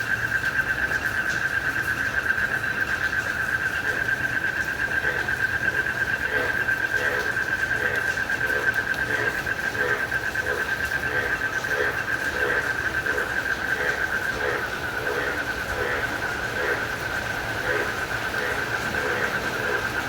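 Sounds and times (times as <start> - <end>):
cricket trill: 0.0 - 20.0
frog calling: 0.0 - 20.0
rain hiss: 0.0 - 20.0.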